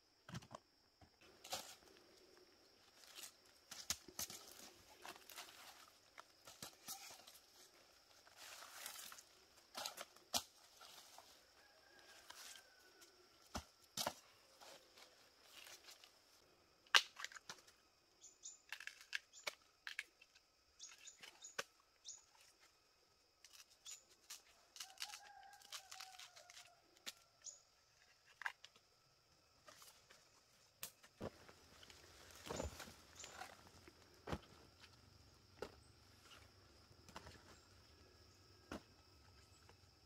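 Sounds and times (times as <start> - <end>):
bamboo husk cracking and rustling: 1.2 - 16.2, 16.8 - 37.8.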